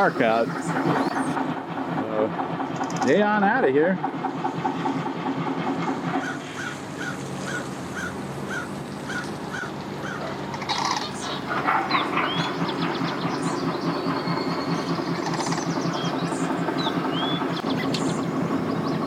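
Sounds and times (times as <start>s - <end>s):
birds calling: 0.0s - 19.0s
engine idling hum: 0.0s - 19.0s.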